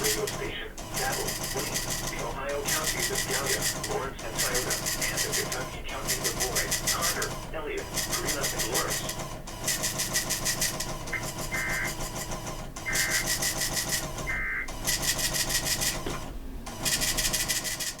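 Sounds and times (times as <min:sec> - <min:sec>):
harsh pulsing radio alert buzz: 0:00.0 - 0:16.0.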